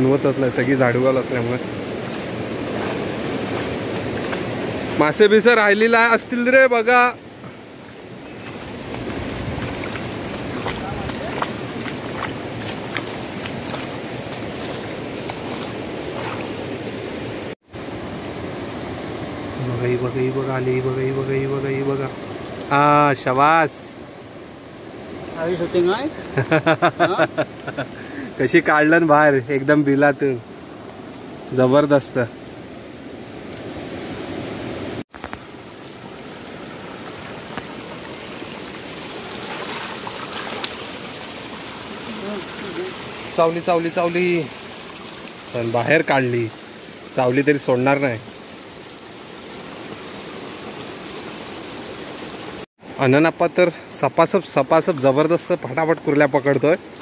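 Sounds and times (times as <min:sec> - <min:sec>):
stream rushing over stones: 0:00.0 - 0:57.0.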